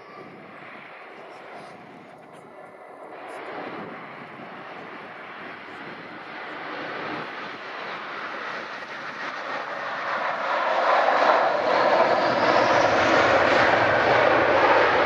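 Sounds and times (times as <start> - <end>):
airliner engines roaring: 0.0 - 15.0.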